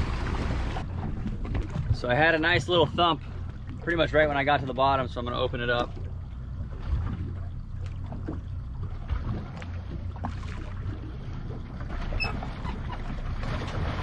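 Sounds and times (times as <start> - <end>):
boat engine rumble: 0.0 - 14.0
water noise: 0.0 - 14.0.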